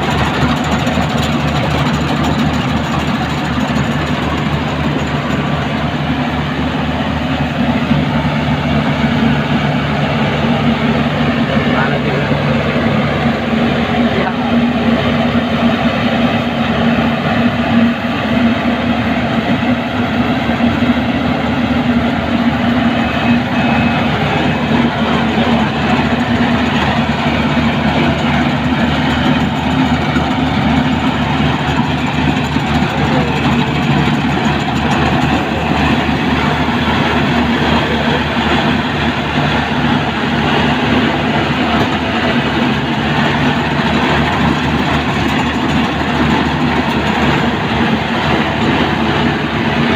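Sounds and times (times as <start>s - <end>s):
machinery rattling: 0.0s - 18.6s, 19.4s - 49.9s
harvester engine drone: 0.0s - 49.9s.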